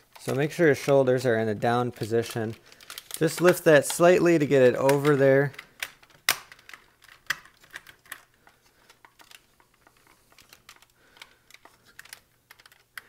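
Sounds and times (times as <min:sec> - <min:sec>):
plastic figure parts clicking: 0:00.0 - 0:13.0.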